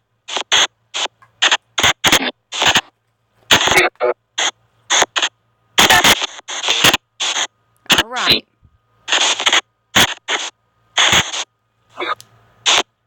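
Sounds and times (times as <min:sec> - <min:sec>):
spirit box radio sweeping: 0:00.3 - 0:02.9, 0:03.5 - 0:08.4, 0:09.1 - 0:12.9.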